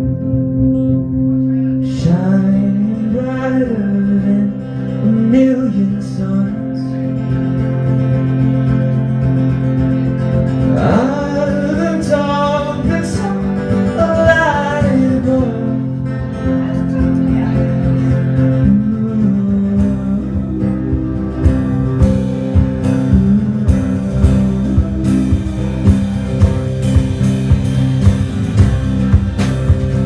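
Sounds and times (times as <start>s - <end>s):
rock band chords over bass: 0.0s - 30.0s.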